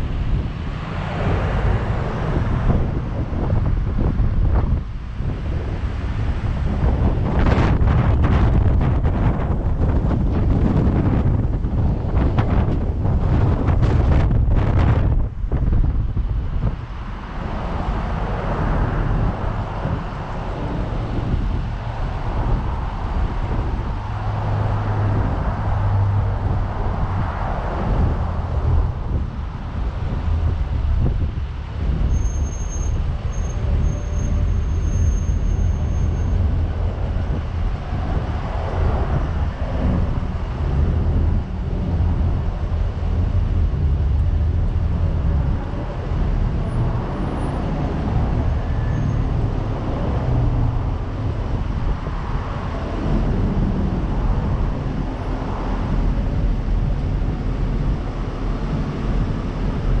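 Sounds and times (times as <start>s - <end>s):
low traffic rumble: 0.0s - 60.0s
vehicles passing close by: 0.0s - 60.0s.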